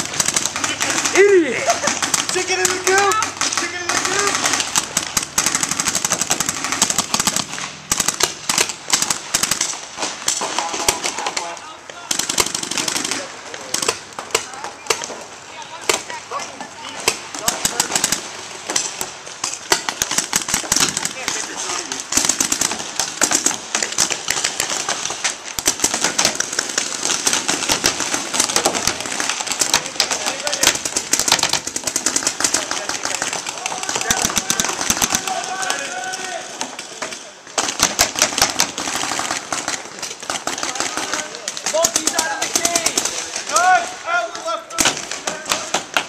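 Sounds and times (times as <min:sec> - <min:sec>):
paintball markers firing: 0:00.0 - 0:43.8, 0:44.4 - 0:46.0.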